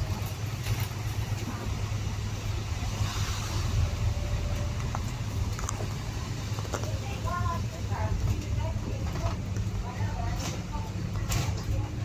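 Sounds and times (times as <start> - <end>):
car driving rumble: 0.0 - 12.0
road noise: 0.0 - 12.0.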